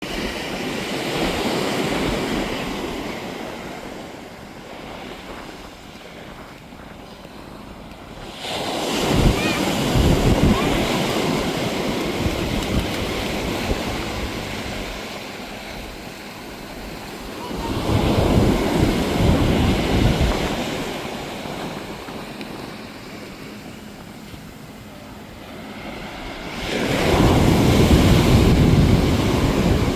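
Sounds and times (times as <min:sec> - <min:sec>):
waves washing onto shore: 0:00.0 - 0:29.9
wind buffeting microphone: 0:00.0 - 0:29.9.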